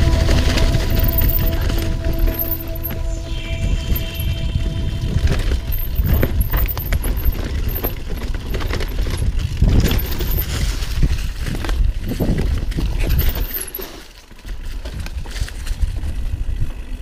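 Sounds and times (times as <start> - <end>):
mountain bike rattling over trail: 0.0 - 3.0, 5.2 - 17.0
wind rumble on microphone: 0.0 - 17.0.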